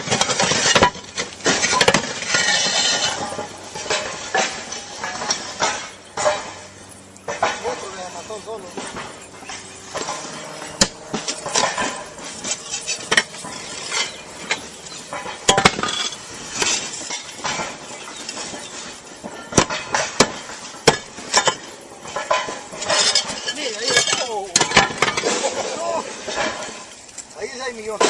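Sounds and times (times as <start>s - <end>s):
clay roof tiles clinking: 0.0s - 28.0s.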